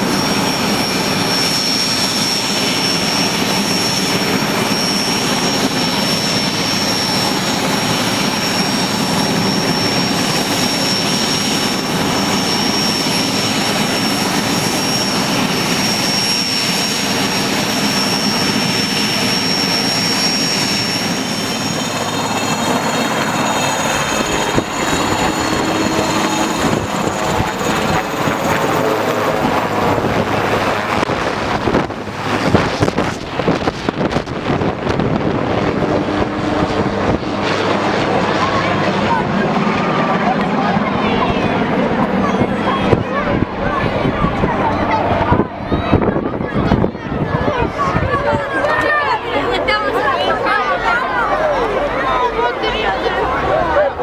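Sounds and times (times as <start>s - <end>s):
helicopter turbine whine: 0.0s - 54.0s
wavering engine tones: 0.0s - 54.0s.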